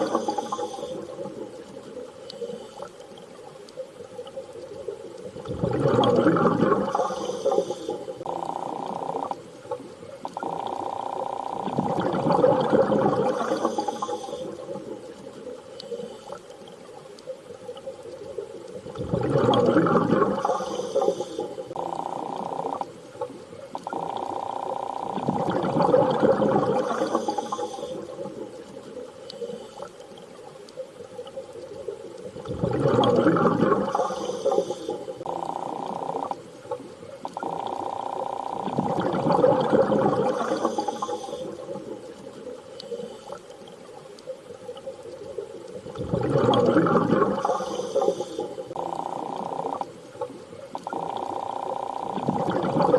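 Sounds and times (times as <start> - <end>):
steady underwater hum: 0.0 - 52.9
underwater rushes of water: 0.0 - 52.9.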